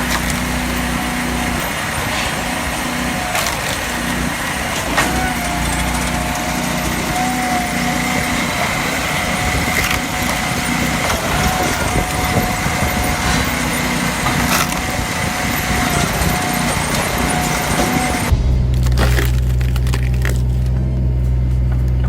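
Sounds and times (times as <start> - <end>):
high whine: 0.0 - 22.0
small engine running: 0.0 - 22.0.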